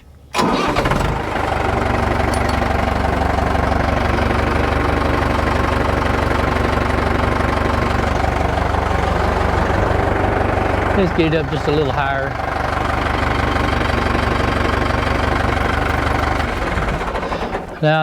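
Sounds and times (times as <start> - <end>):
tractor engine starting and idling: 0.0 - 18.0.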